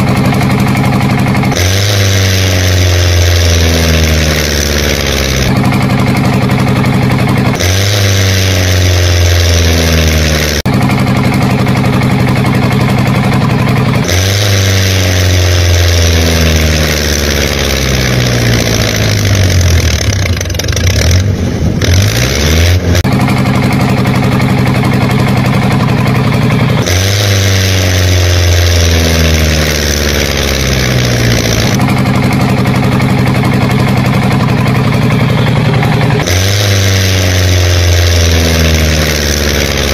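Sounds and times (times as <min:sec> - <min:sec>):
engine running and revving: 0:00.0 - 0:39.9.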